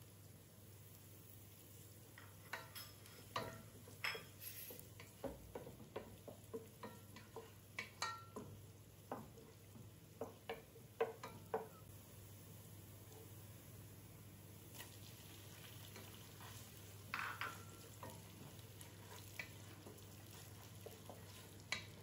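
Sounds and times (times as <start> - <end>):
spatula stirring onions in a pot: 0.3 - 22.0.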